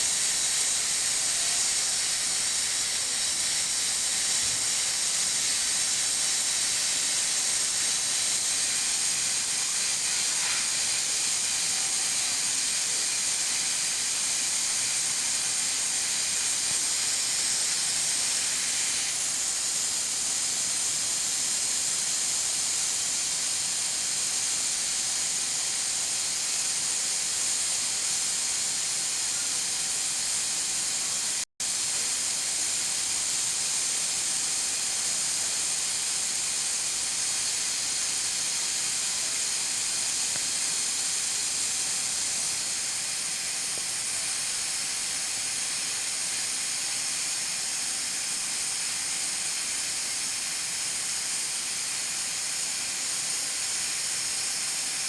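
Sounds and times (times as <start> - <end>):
pressure cooker hissing steam: 0.0 - 55.0.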